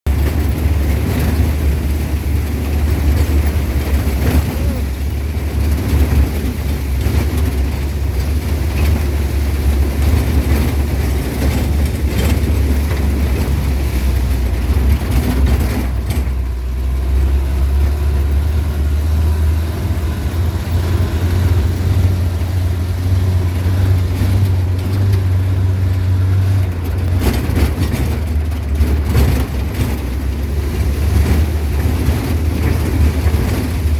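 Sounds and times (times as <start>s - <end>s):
jeep engine and tyres rumbling: 0.0s - 33.9s.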